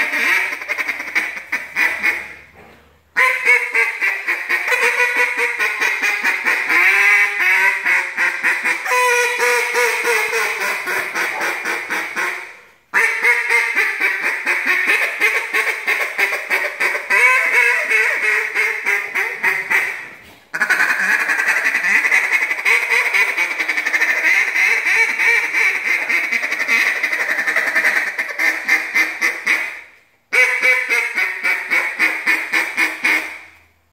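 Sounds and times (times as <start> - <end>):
duck call raspy quacks: 0.0 - 2.5, 3.2 - 33.6.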